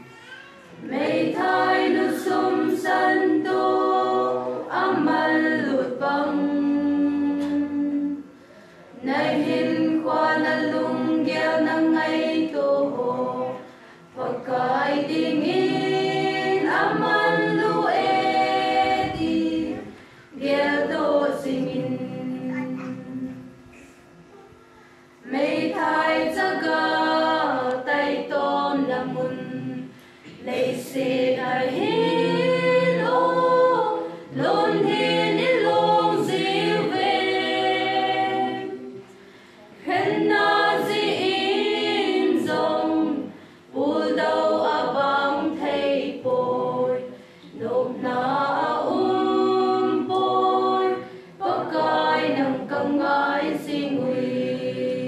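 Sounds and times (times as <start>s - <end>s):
choir singing unaccompanied: 0.7s - 23.9s, 25.2s - 55.0s.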